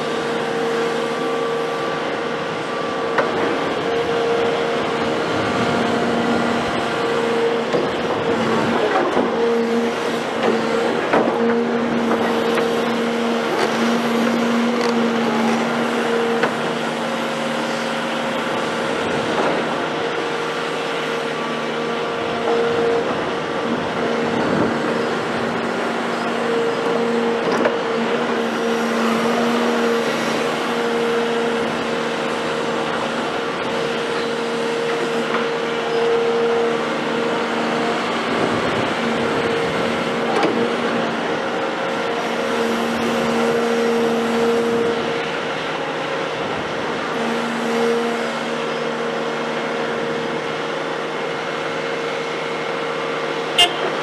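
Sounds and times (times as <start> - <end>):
excavator diesel drone: 0.0 - 54.0.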